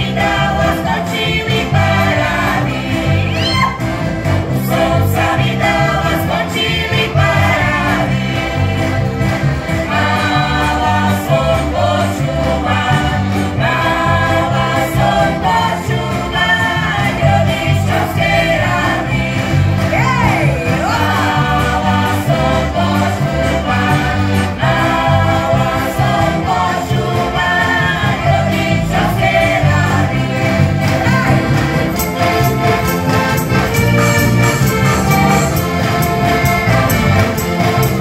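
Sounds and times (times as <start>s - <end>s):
accordions: 0.0s - 38.0s
bass guitar: 0.0s - 38.0s
group of voices singing: 0.0s - 38.0s.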